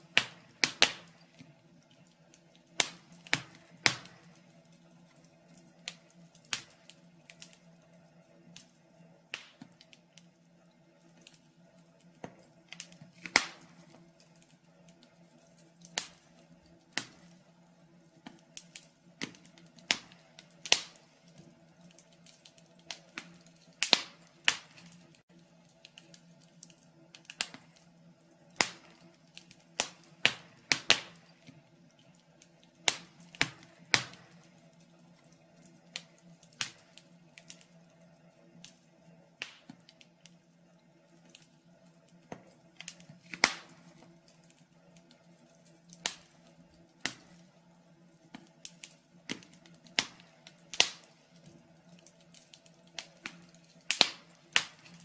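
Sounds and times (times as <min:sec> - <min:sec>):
faint steady hum: 0:00.0 - 0:55.0
wood fire crackling and popping: 0:00.0 - 0:55.0.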